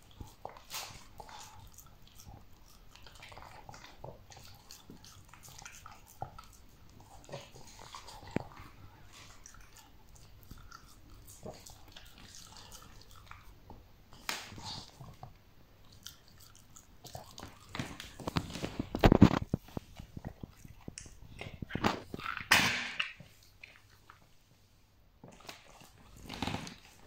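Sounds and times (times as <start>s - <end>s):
dog licking: 0.0s - 22.5s
dog chewing strawberry: 0.0s - 24.3s.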